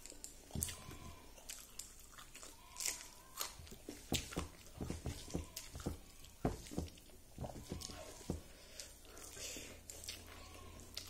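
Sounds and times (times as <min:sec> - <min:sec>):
wet chewing smacks: 0:00.0 - 0:07.1, 0:07.8 - 0:11.0
fingers squishing food: 0:00.0 - 0:11.0.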